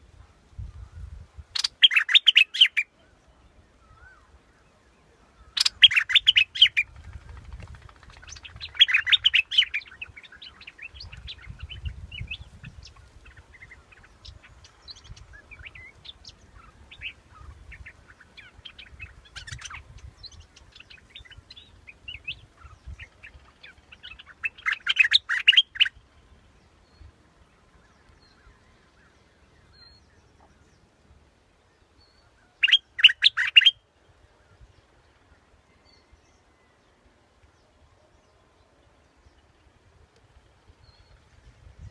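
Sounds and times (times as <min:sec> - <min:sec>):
quiet bird chirps: 0:00.0 - 0:41.9.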